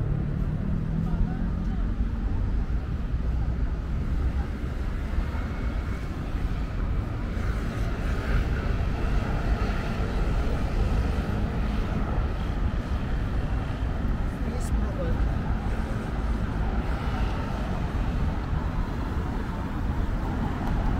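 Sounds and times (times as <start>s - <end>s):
traffic rumble: 0.0s - 20.9s.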